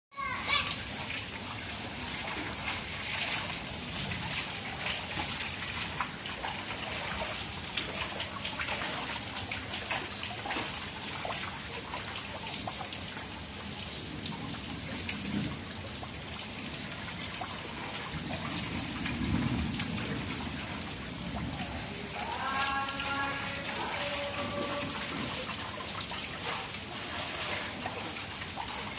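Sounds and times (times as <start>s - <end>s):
rain falling on water and concrete: 0.1s - 28.9s.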